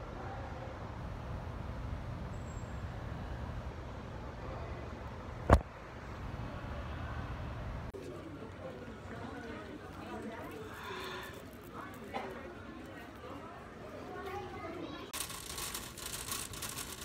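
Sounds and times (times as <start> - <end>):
airport terminal rumble and hiss: 0.0 - 17.0.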